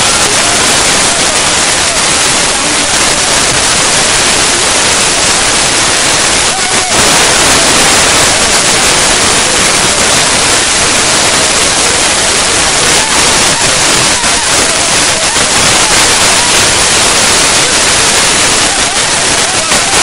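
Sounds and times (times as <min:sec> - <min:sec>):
faint voices: 0:00.0 - 0:20.0
river rushing: 0:00.0 - 0:20.0.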